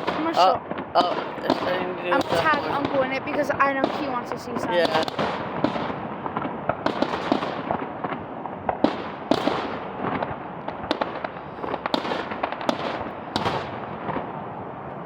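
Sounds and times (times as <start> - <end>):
distant fireworks bangs and pops: 0.0 - 14.6.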